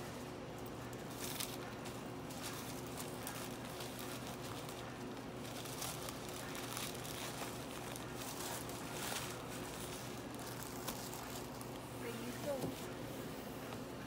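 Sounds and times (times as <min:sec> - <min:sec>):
steady low hum: 0:00.0 - 0:14.0
paper wrapper crinkling: 0:01.0 - 0:12.9.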